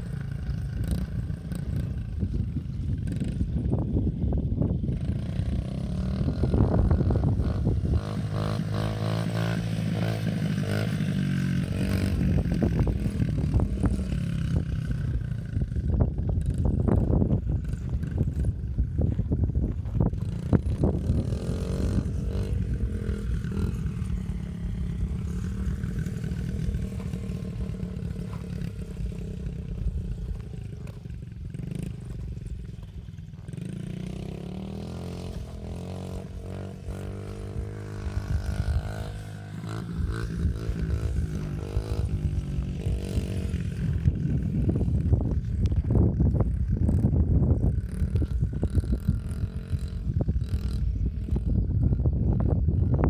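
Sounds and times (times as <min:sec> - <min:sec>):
dirt bike engine revving: 0:00.0 - 0:52.7
wind rumble on microphone: 0:00.0 - 0:53.0.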